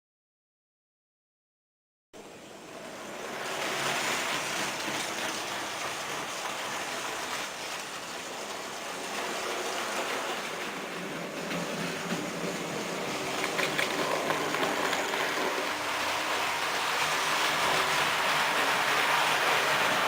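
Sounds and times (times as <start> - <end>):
model train running on track: 2.2 - 20.0.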